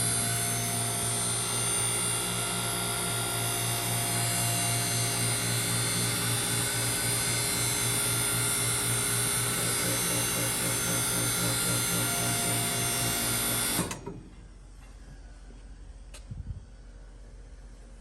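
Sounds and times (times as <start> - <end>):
hydraulic pump motor humming: 0.0 - 14.4.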